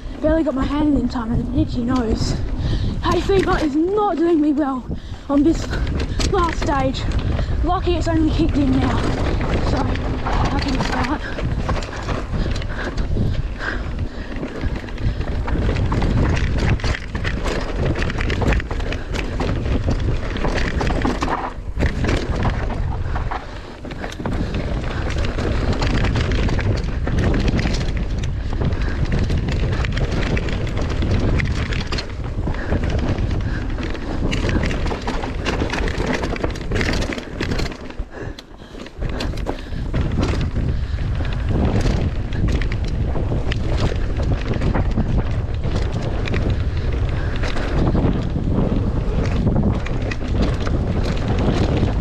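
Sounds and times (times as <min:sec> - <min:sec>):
bike knocks and rattles: 0:00.0 - 0:52.0
bike tyres on dirt: 0:00.0 - 0:52.0
wind noise on microphone: 0:00.0 - 0:52.0.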